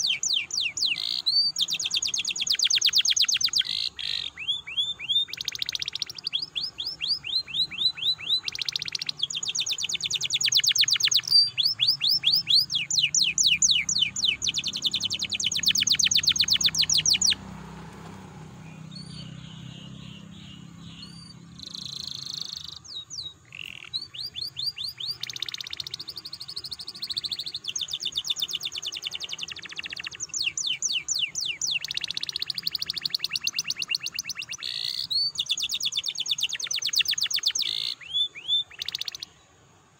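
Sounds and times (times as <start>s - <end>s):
canary singing trills: 0.0s - 39.7s.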